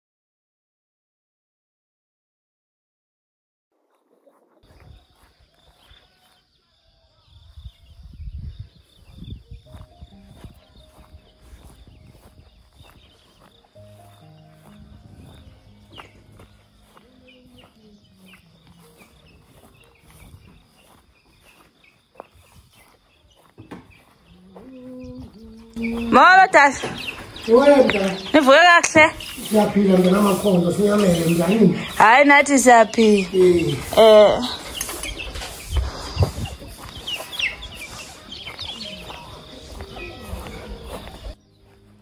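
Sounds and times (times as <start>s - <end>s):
footsteps through grass: 3.8s - 6.6s, 7.4s - 42.0s
chicks peeping: 4.3s - 42.0s.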